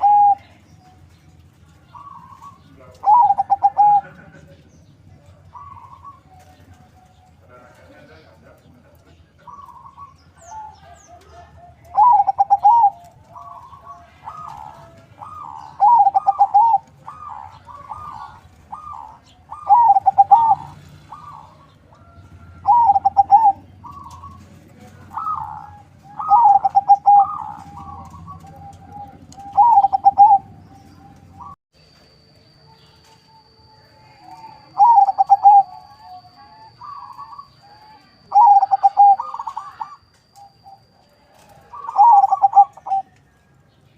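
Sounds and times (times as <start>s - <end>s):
dove cooing: 0.0s - 31.6s, 33.4s - 43.3s.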